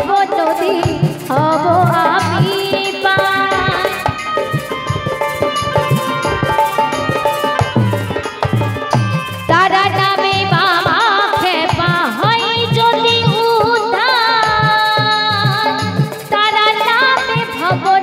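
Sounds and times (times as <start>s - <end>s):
woman singing: 0.0s - 6.7s, 9.4s - 18.0s
barrel drum beating: 0.0s - 18.0s
electronic keyboard melody: 0.0s - 18.0s.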